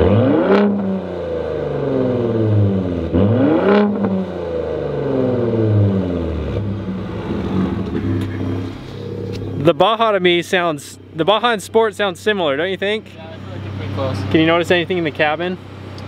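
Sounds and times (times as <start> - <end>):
car engine revving from idle: 0.0 - 16.0.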